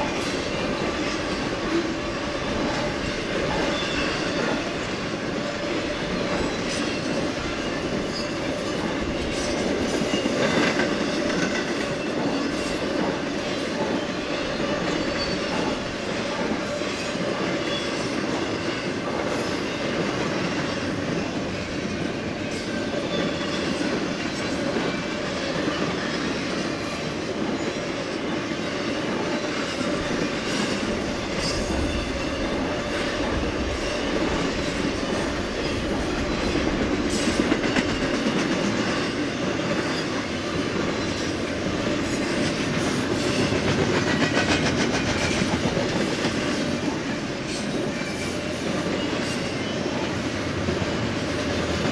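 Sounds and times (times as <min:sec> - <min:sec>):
clickety-clack over rail joints: 0:00.0 - 0:51.9
train wheels rumbling on rail: 0:00.0 - 0:51.9.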